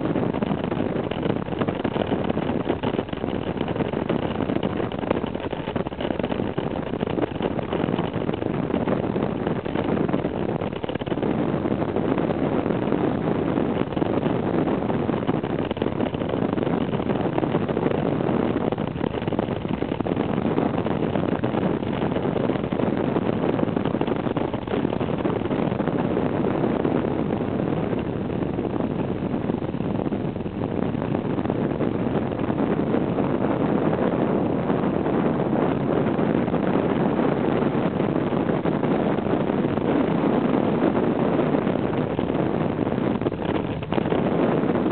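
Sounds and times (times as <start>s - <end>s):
road and wind noise inside vehicle: 0.0s - 44.9s.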